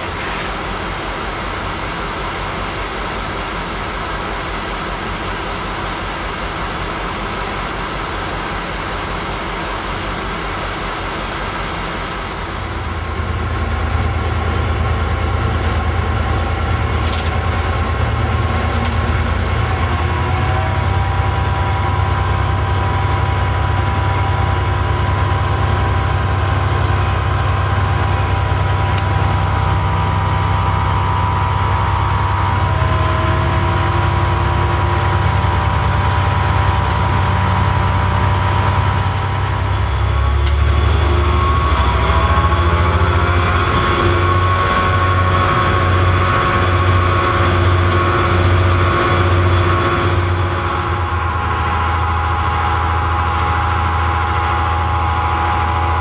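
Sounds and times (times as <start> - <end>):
high engine whine: 0.0 - 56.0
locomotive engine drone: 0.0 - 56.0.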